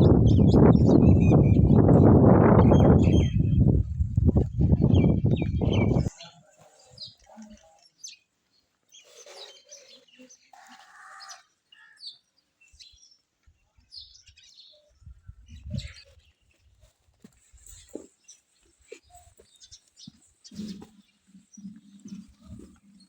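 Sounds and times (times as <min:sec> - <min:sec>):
birds chirping: 0:00.0 - 0:16.7, 0:17.6 - 0:23.0.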